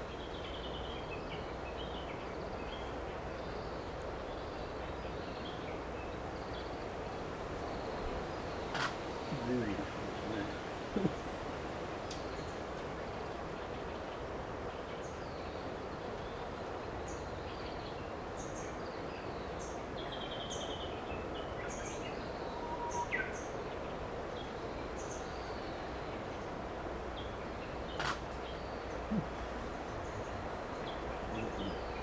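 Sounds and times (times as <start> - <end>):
wild birds chirping: 0.0 - 32.0.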